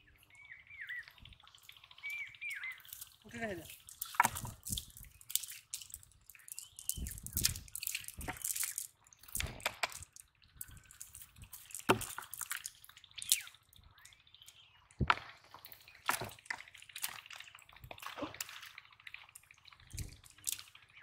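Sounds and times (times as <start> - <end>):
water dripping and splashing: 0.0 - 21.0.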